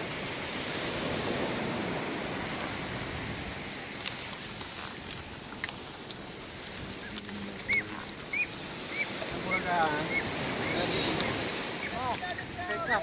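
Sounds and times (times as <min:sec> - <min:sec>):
sharp splashes and ticks: 0:00.0 - 0:13.0
water rushing: 0:00.0 - 0:13.0.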